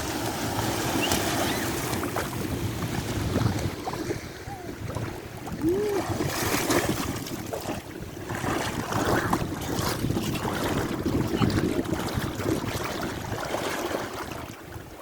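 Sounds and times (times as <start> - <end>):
sea water splashing: 0.0 - 15.0
wind buffeting microphone: 0.0 - 15.0.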